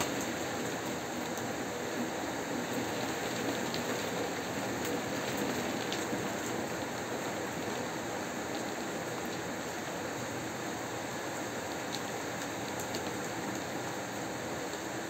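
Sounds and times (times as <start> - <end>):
rain on window: 0.0 - 15.0.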